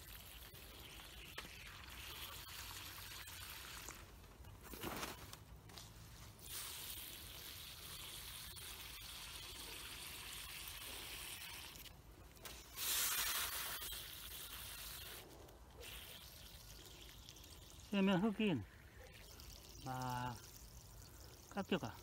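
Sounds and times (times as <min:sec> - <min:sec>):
water gushing from hose: 0:00.0 - 0:04.5, 0:06.1 - 0:22.0.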